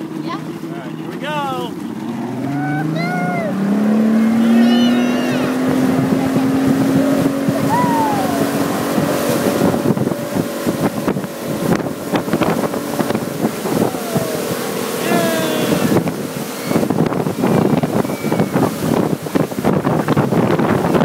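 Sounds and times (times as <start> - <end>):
boat engine running: 0.0 - 21.0
wake churning: 0.0 - 21.0
wind buffeting microphone: 1.8 - 21.0.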